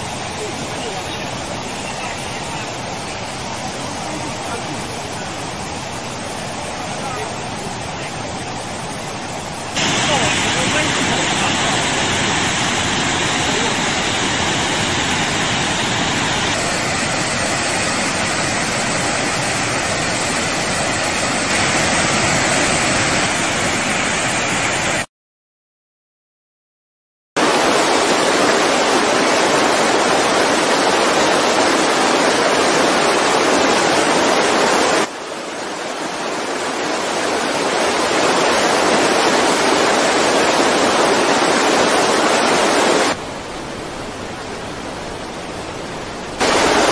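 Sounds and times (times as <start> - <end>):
floodwater rushing from spillway: 0.0 - 25.1, 27.4 - 46.9.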